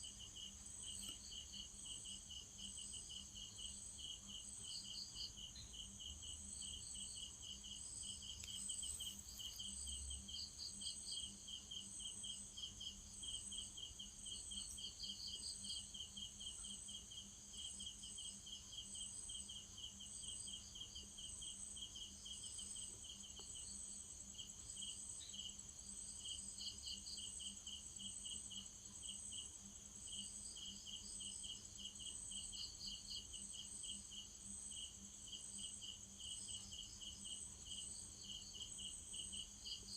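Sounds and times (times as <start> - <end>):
faint steady hum: 0.0 - 39.9
insects chirping: 0.0 - 39.9.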